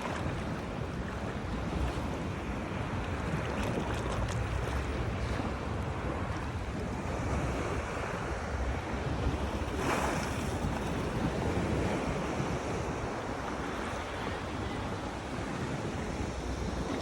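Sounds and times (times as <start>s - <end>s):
sea waves washing in: 0.0s - 17.0s
wind buffeting microphone: 0.0s - 17.0s.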